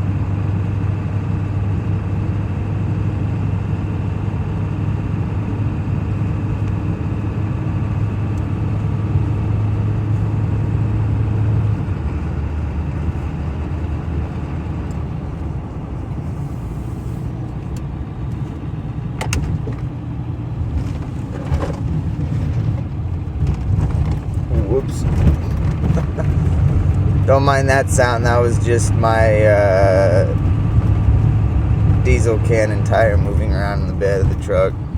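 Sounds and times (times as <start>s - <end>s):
truck engine hum: 0.0s - 34.9s.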